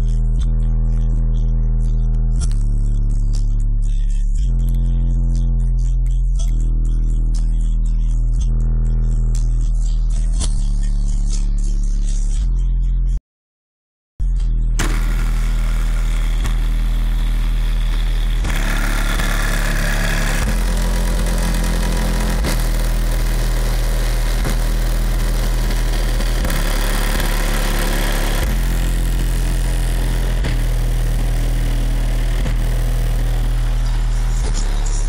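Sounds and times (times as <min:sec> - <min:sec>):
bass-heavy music from car stereo: 0:00.0 - 0:13.2, 0:14.2 - 0:35.0.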